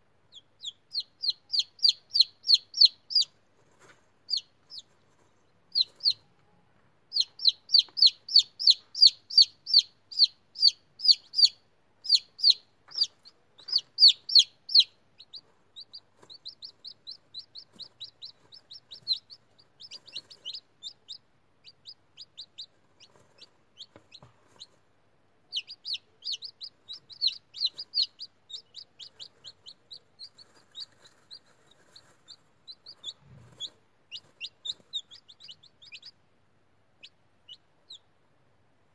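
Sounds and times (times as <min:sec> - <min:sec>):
chicks peeping: 0:00.2 - 0:38.3.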